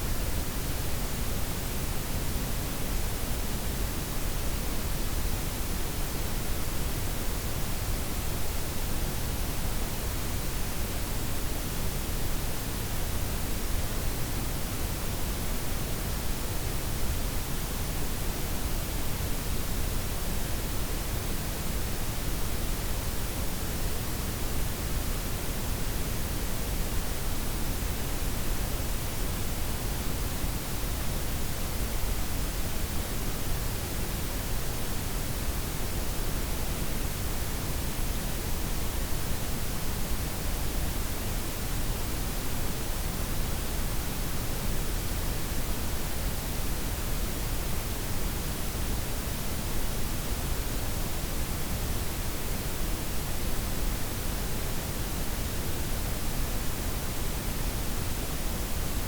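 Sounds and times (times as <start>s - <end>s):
smooth noise hiss: 0.0s - 59.0s.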